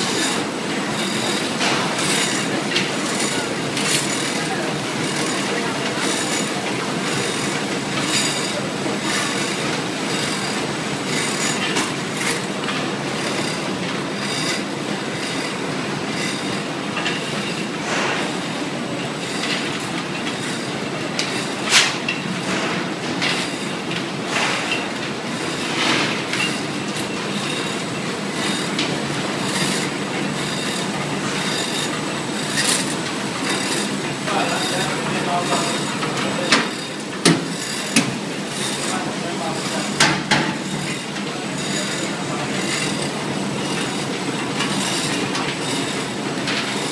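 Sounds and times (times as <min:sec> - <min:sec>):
packaging machine running: 0:00.0 - 0:46.9.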